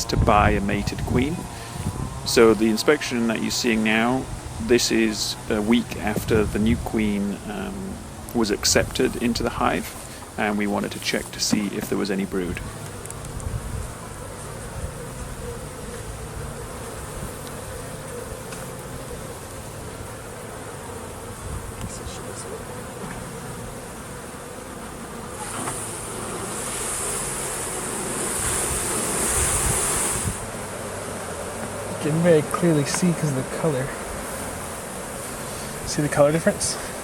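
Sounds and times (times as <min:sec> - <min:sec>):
high hiss: 0:00.0 - 0:23.2, 0:25.3 - 0:37.0
honeybees buzzing: 0:00.0 - 0:37.0.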